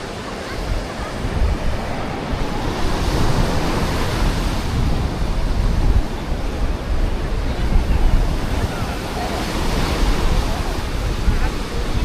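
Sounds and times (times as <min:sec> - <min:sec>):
sea surf breaking: 0:00.0 - 0:12.0
wind rumbling on microphone: 0:00.0 - 0:12.0.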